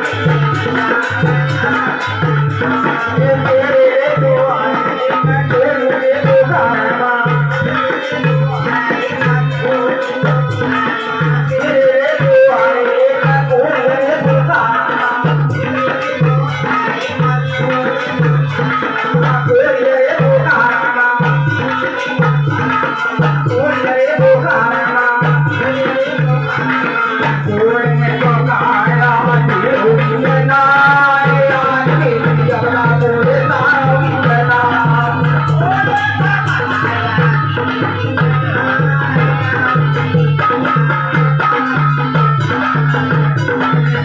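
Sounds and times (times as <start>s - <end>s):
devotional song melody: 0.0s - 44.0s
hand drum beat: 0.0s - 44.0s.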